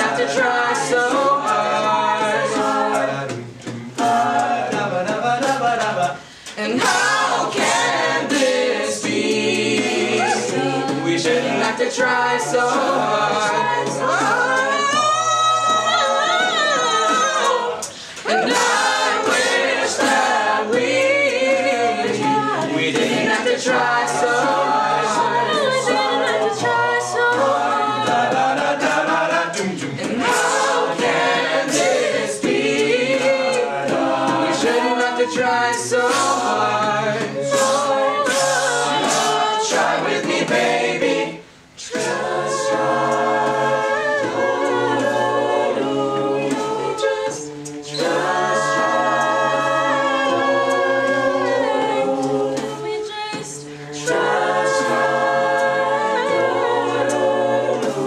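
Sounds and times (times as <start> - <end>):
backing vocal harmonies: 0.0 - 58.0
beatboxed vocal percussion: 0.0 - 58.0
lead vocals singing: 0.0 - 58.0.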